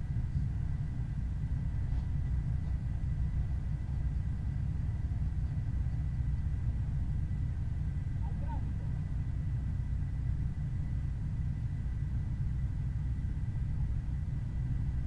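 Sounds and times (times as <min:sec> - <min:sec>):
car driving: 0:00.0 - 0:15.0.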